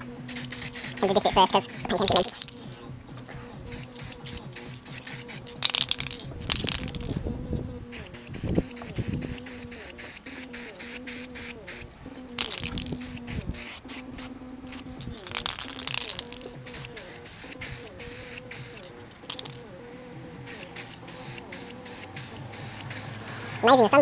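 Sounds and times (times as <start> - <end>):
aerosol spray can hissing: 0.2 - 2.8, 3.4 - 7.2, 7.8 - 19.7, 20.4 - 24.0.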